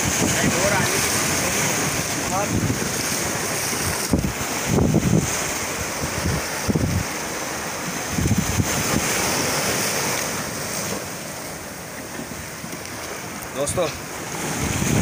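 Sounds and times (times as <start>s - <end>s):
wind buffeting microphone: 0.0s - 11.1s, 12.2s - 15.0s
sea waves breaking on rocks: 0.0s - 15.0s.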